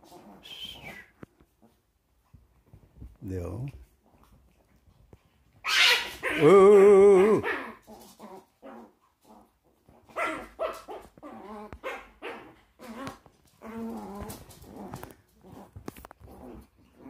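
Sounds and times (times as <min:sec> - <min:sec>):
small dogs growling and barking: 0:00.0 - 0:01.8, 0:03.9 - 0:17.0.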